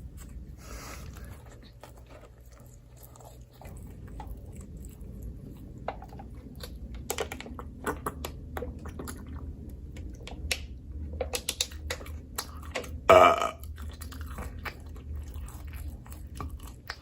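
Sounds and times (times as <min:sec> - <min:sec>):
mouth chewing and smacking: 0:00.0 - 0:17.0
steady low hum: 0:00.0 - 0:17.0.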